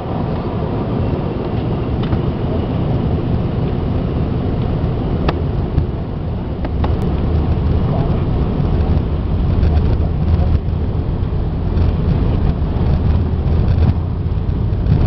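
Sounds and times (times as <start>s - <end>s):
low engine and wheel rumble: 0.0s - 15.0s.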